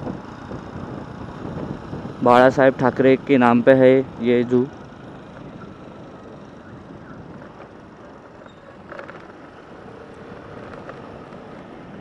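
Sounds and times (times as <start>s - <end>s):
motorbike running at low speed: 0.0s - 12.0s
road noise: 0.0s - 12.0s.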